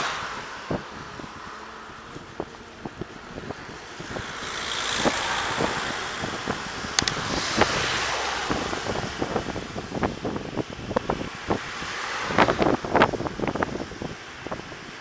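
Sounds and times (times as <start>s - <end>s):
passing car and van: 0.0s - 15.0s
wind buffeting microphone: 0.0s - 15.0s.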